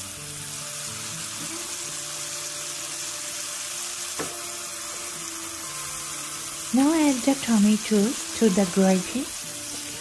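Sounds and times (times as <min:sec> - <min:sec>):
sauce bubbling and sizzling in a pan: 0:00.0 - 0:10.0.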